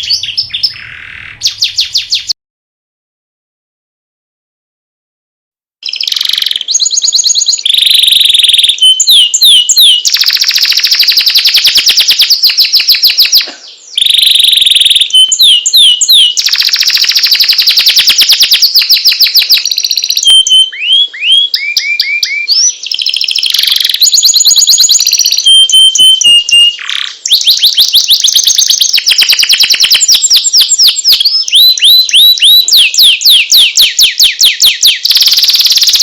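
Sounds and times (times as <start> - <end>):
canary singing: 0.0 - 2.4, 5.8 - 36.0.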